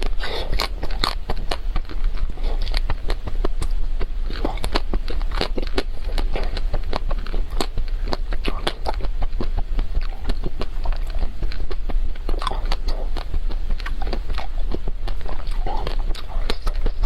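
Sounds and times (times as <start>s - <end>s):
chocolate shell crackling while chewing: 0.0s - 17.0s
steady low hum: 0.0s - 17.0s.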